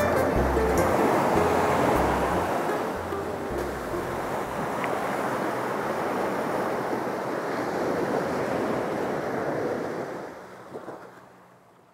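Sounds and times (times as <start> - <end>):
ocean surf washing on beach: 0.0 - 11.6.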